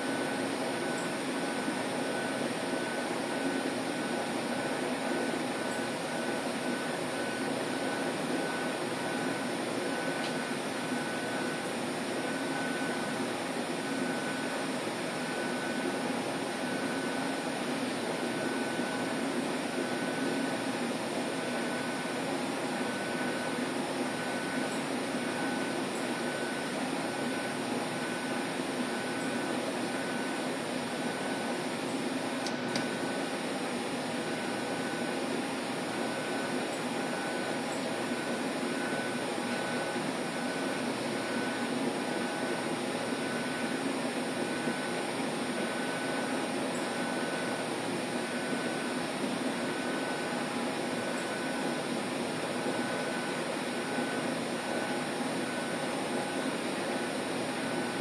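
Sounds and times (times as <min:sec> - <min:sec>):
steady hum and hiss: 0:00.0 - 0:58.0.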